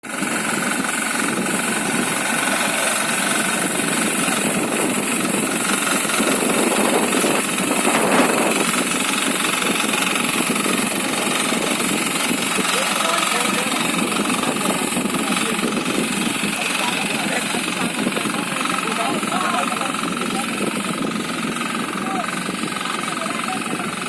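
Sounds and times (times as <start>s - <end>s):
crop reaper engine running: 0.0s - 24.0s.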